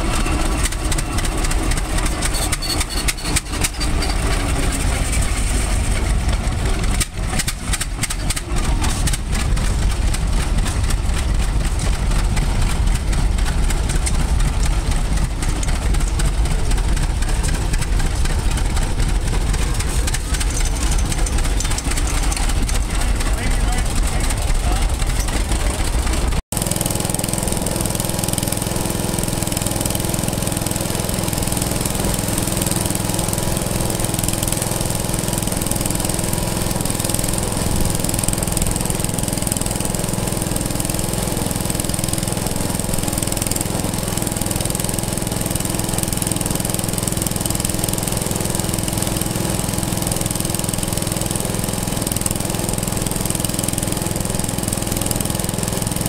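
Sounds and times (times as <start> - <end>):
antique engine running: 0.0 - 56.0.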